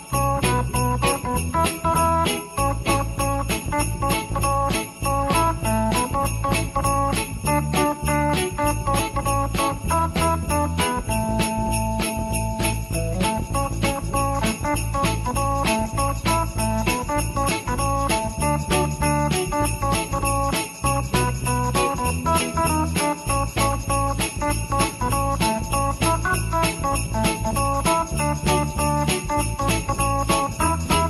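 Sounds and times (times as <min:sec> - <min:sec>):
music with sleigh bells and bass line: 0:00.0 - 0:31.0.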